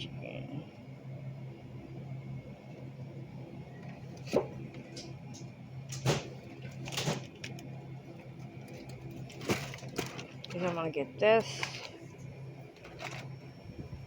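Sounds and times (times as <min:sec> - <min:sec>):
freezer cases humming: 0:00.0 - 0:14.0.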